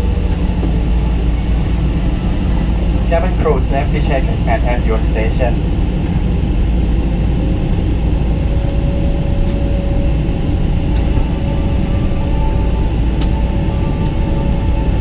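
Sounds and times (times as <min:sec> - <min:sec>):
aircraft cabin rumble: 0:00.0 - 0:15.0
faint steady whine: 0:00.0 - 0:15.0.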